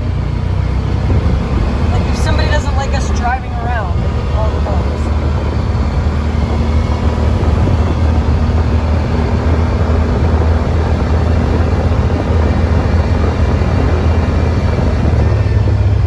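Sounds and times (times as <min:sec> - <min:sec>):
vehicle engine drone: 0:00.0 - 0:16.0
rushing noise: 0:00.8 - 0:16.0.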